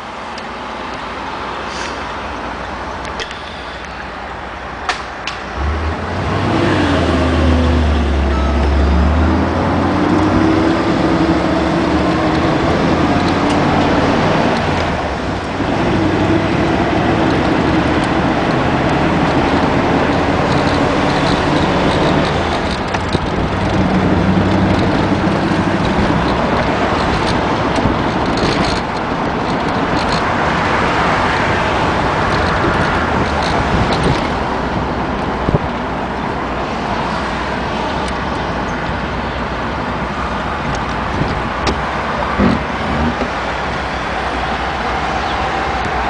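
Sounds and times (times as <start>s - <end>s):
car engine driving: 0.0s - 46.0s
road noise: 0.0s - 46.0s.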